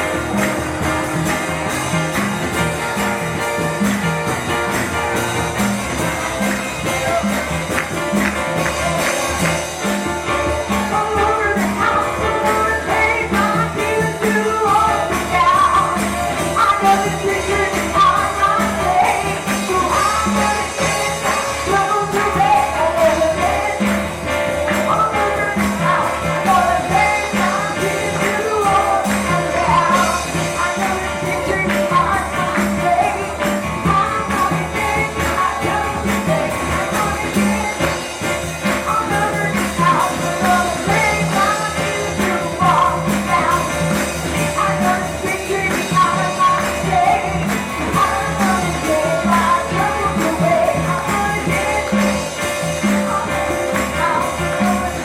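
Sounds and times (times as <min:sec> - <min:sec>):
church worship music: 0:00.0 - 0:55.0
people singing: 0:05.9 - 0:55.0.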